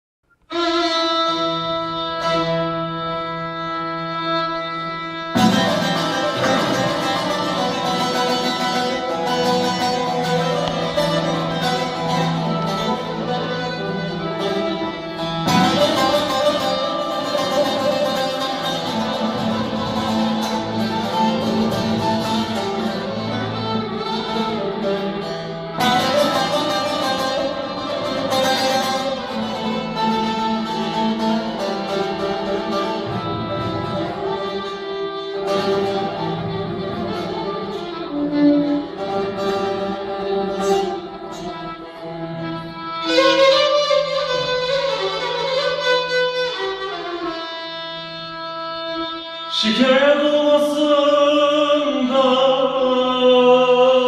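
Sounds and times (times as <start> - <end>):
folk music on plucked and bowed strings: 0.4 - 54.0.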